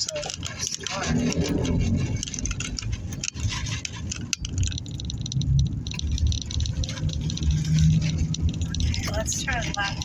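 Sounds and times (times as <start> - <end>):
light rattling in car interior: 0.0 - 10.0
low tyre rumble: 0.0 - 10.0.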